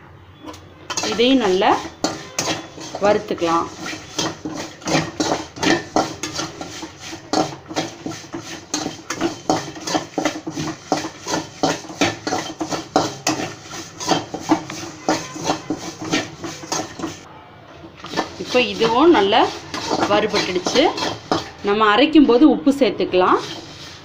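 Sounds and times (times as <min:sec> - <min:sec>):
spatula scraping a metal pan: 0:00.4 - 0:17.3, 0:18.0 - 0:21.8, 0:23.2 - 0:24.0.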